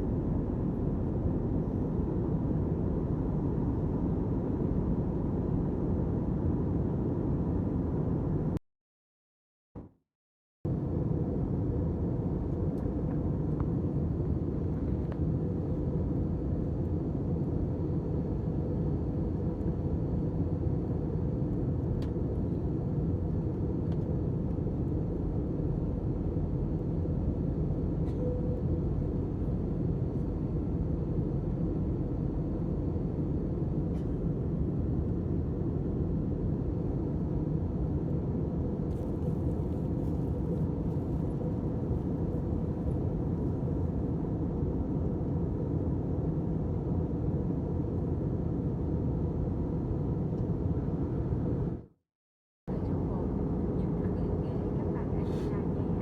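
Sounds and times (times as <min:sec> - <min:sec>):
jet airliner rumble: 0:00.0 - 0:08.6, 0:10.7 - 0:52.0, 0:52.7 - 0:56.0.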